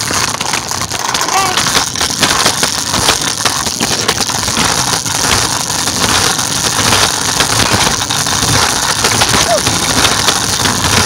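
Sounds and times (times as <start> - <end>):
scooter rattling on concrete: 0.0 - 11.0.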